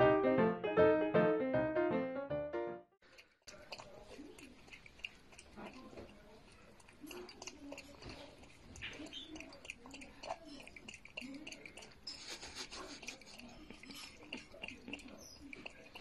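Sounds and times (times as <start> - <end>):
raccoon lapping water: 3.0 - 16.0.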